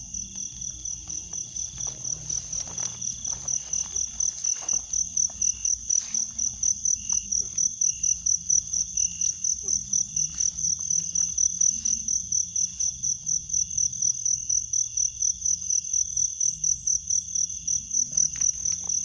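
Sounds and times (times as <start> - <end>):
crickets chirping: 0.0 - 19.0
lower insect call: 0.0 - 19.0.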